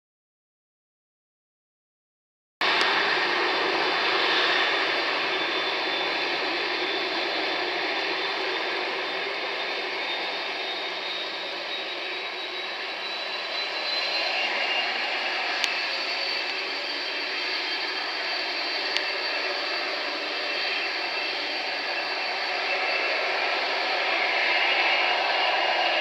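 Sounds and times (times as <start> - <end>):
jet engines with fan whine: 2.6 - 26.0.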